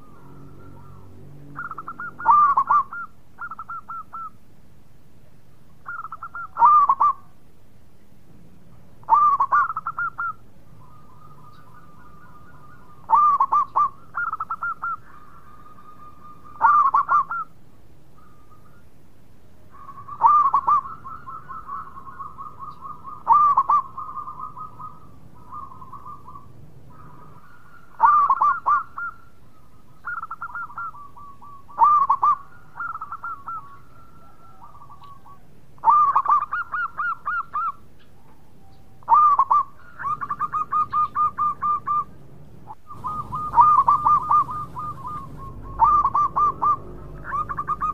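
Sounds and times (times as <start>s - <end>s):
doves cooing: 0.0s - 4.4s, 5.8s - 7.4s, 8.7s - 17.6s, 19.6s - 47.9s.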